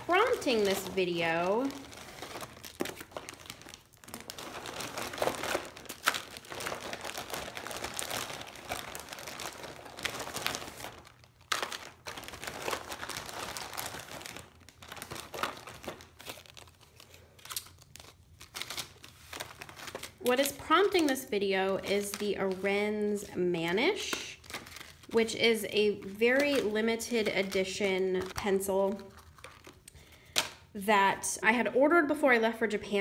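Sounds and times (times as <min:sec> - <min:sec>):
crinkly packaging crackling: 0:00.0 - 0:30.8.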